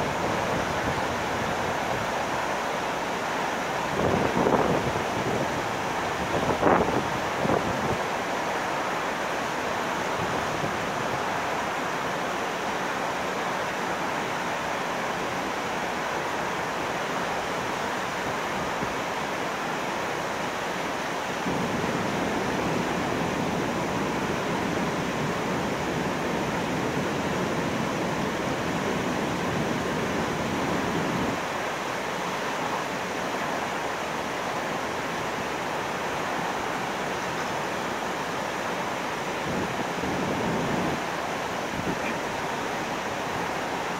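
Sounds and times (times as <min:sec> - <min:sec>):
water rushing through sluice gates: 0:00.0 - 0:43.9.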